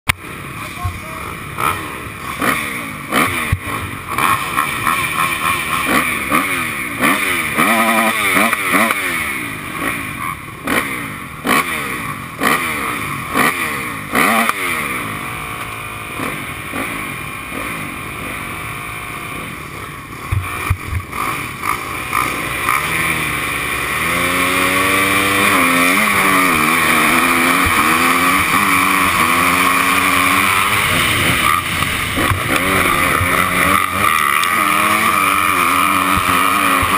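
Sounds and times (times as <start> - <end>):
motocross engines revving: 0.1 - 36.9
motorcycle accelerating through gears: 0.1 - 36.9.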